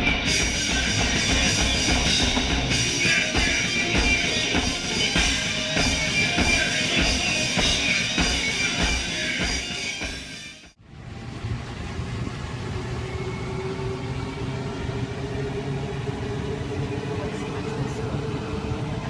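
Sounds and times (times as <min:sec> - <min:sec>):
metro train rumbling: 0:00.0 - 0:19.0.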